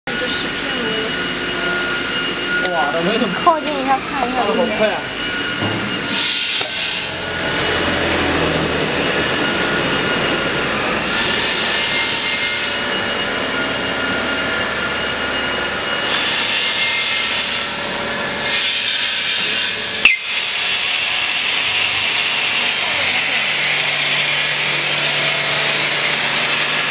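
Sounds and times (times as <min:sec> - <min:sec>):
vacuum press machine running: 0:00.1 - 0:26.9.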